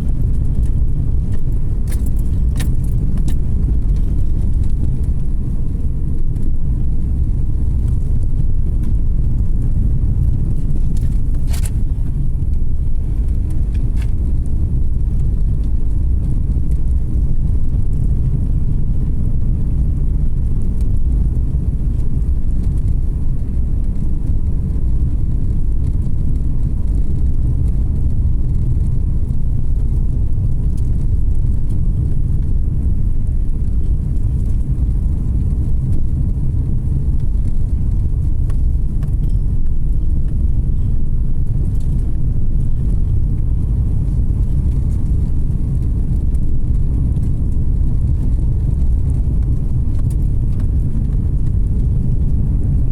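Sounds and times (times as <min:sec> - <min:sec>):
car tyres and engine rumble: 0:00.0 - 0:52.9.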